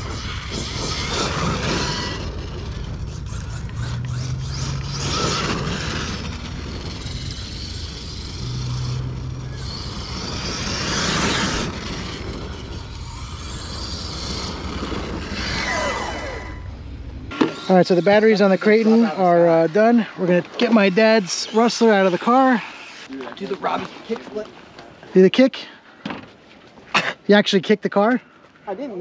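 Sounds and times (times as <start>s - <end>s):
rc truck motor and tyres: 0.0s - 25.0s.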